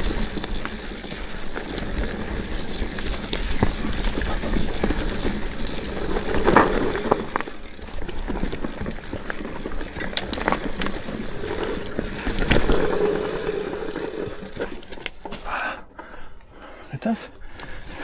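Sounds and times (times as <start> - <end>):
bike chain and frame clicking: 0.0 - 15.7
bike tyres rolling over dirt: 0.0 - 16.4, 17.4 - 18.0.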